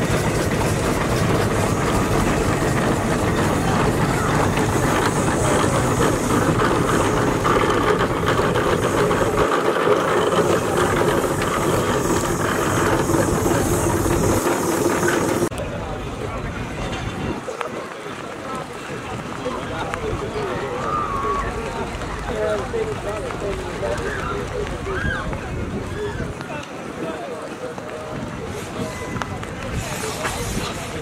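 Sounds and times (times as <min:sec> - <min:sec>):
steam traction engine clattering: 0:00.0 - 0:31.0.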